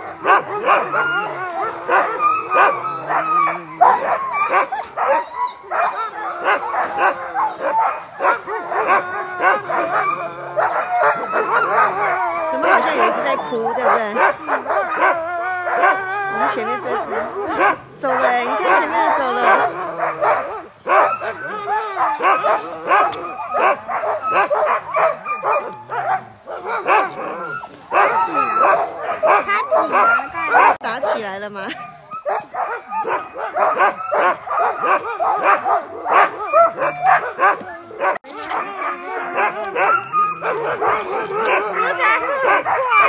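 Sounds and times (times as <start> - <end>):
dogs barking and yelping: 0.0 - 43.0
dogs howling: 0.0 - 43.0.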